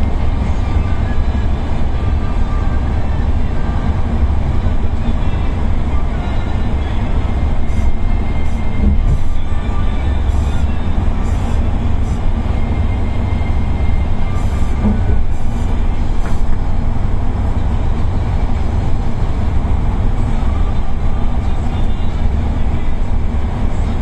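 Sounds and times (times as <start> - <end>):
vehicle engine and tyre rumble: 0.0 - 24.0.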